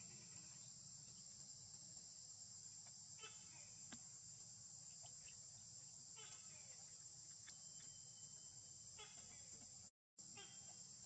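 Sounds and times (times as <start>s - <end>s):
faint chirps: 0.0s - 11.0s.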